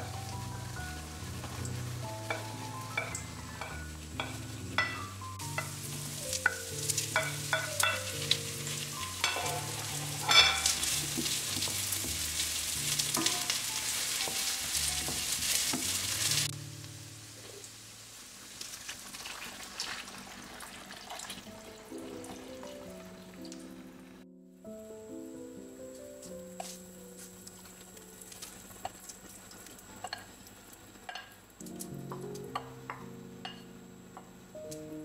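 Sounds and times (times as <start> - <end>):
background music: 0.0 - 18.1, 19.3 - 29.0, 31.6 - 35.0
sizzling hiss: 0.0 - 35.0.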